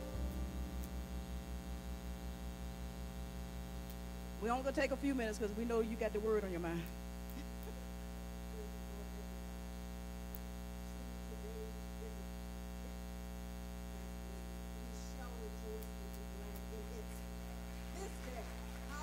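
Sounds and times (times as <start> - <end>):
electrical mains hum and buzz: 0.0 - 19.0.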